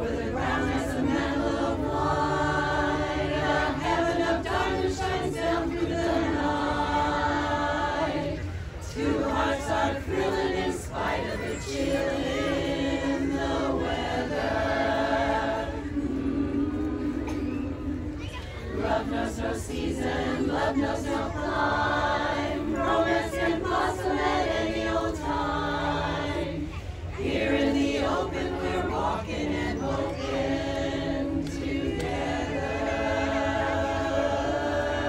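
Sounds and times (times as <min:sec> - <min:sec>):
women's chorus singing a cappella: 0:00.0 - 0:35.0.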